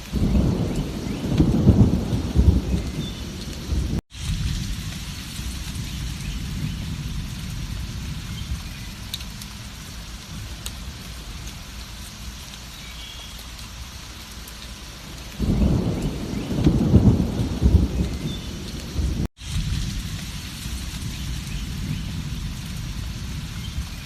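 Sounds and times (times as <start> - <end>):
thunder rumbling: 0.0 - 11.5, 15.3 - 24.0
heavy rain hissing: 0.0 - 24.0.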